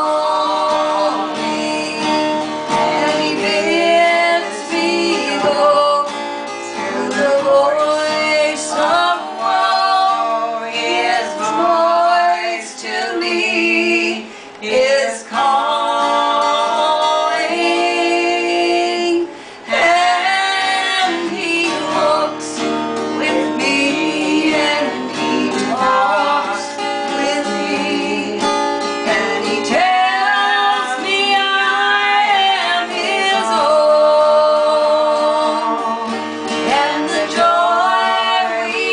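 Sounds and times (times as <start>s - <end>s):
strummed acoustic guitar: 0.0s - 38.9s
women singing together: 0.0s - 38.9s.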